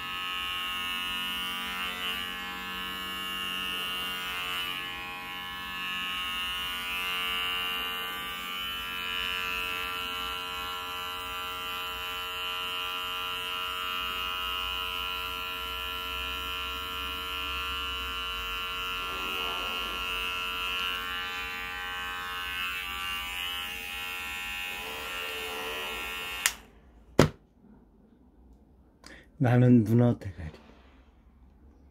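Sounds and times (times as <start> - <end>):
electric hair clipper buzzing: 0.0 - 27.4.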